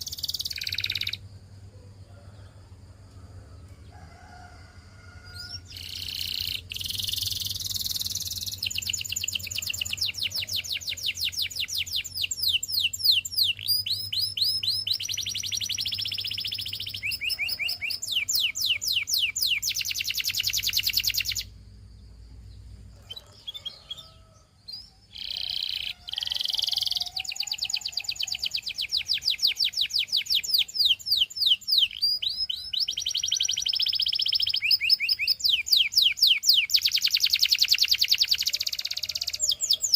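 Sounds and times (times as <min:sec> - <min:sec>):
canary singing trills: 0:00.0 - 0:01.4, 0:05.3 - 0:39.9.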